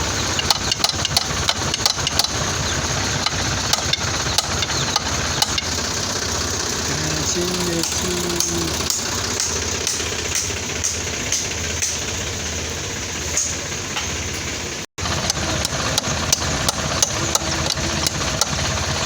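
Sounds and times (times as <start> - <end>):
regular sharp engine knock: 0.0 - 19.0
tractor diesel engine running: 0.0 - 19.0.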